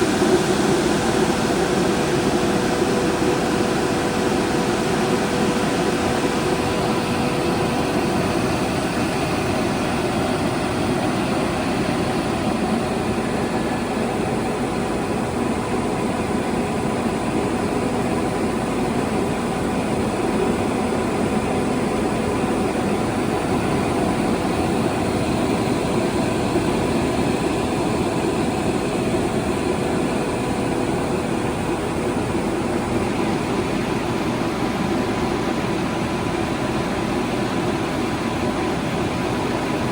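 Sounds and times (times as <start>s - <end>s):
glass washing machine humming: 0.0s - 39.9s.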